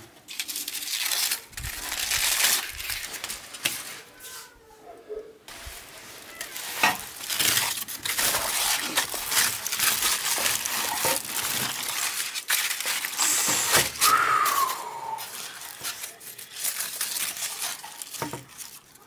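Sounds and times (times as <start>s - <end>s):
aluminium foil crinkling: 0.0s - 4.6s, 5.5s - 19.0s.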